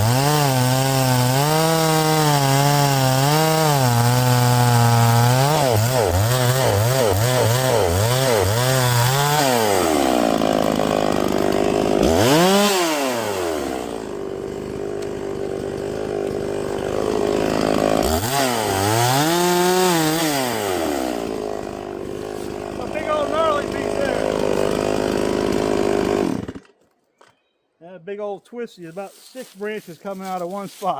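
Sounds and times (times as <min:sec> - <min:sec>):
chainsaw cutting wood: 0:00.0 - 0:27.3.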